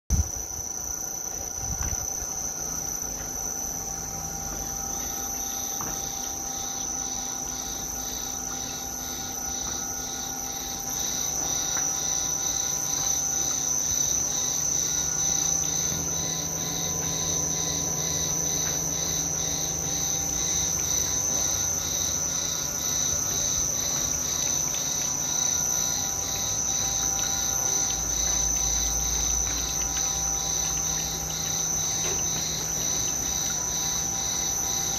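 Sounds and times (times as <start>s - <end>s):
electric motor hum: 0.1s - 34.9s
high steady whine: 0.1s - 34.9s
insects chirping: 0.1s - 34.9s.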